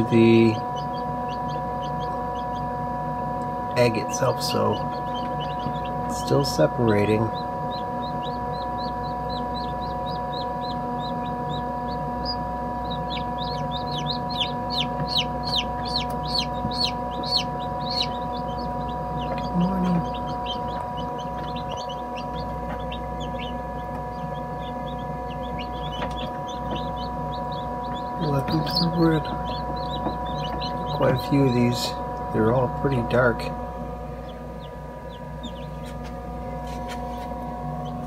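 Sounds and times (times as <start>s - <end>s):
chicks peeping: 0.0s - 38.0s
incubator hum: 0.0s - 38.0s.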